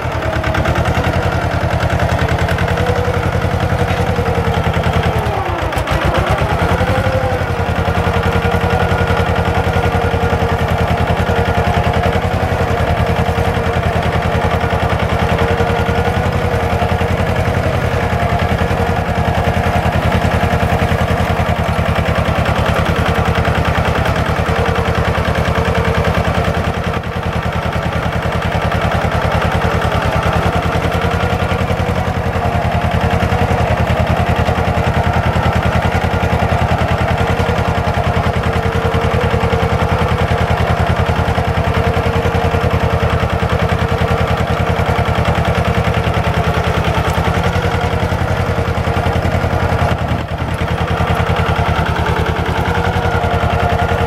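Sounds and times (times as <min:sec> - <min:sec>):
tractor diesel engine knocking: 0:00.0 - 0:54.0.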